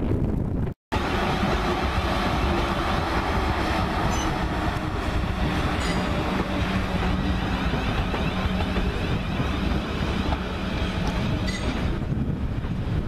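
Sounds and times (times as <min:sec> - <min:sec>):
train wheels rumbling on track: 0:00.9 - 0:13.0.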